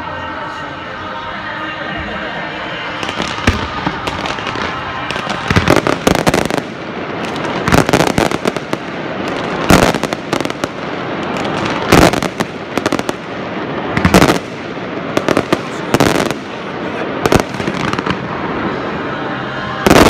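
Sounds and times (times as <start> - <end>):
fireworks bangs: 2.0 - 20.0
fireworks hiss and crackle: 3.0 - 19.2.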